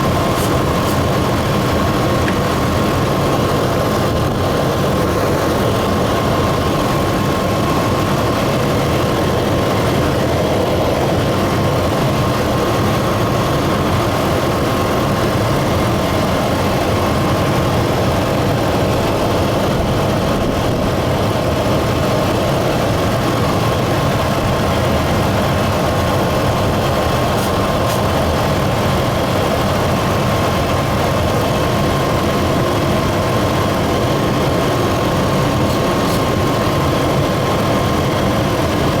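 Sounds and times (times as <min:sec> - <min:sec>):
car engine idling rough: 0:00.0 - 0:39.0
thin steady whine: 0:00.0 - 0:39.0.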